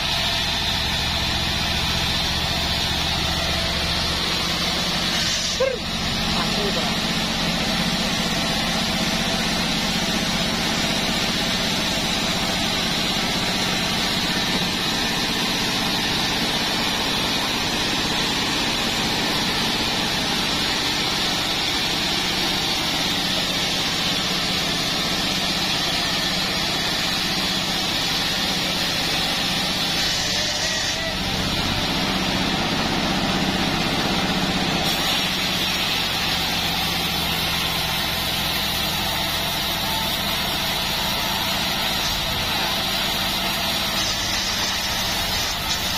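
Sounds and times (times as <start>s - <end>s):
band saw blade running: 0.0s - 45.9s.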